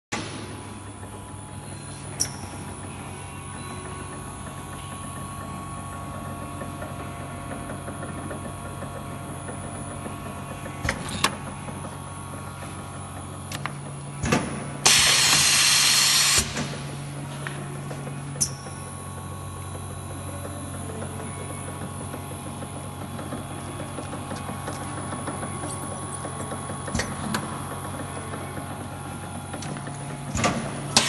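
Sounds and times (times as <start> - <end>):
laminating machine humming: 0.2 - 31.0.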